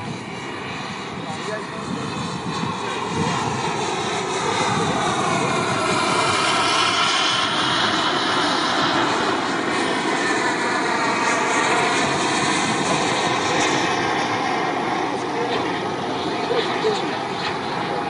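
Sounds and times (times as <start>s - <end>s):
model jet flying past: 0.0s - 18.0s.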